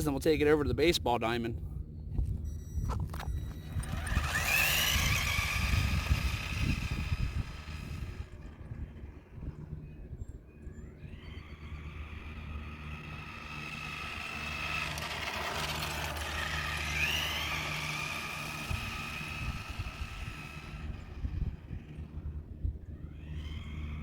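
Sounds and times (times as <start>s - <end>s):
electric toy car motor whining: 2.9s - 9.7s, 10.8s - 24.0s.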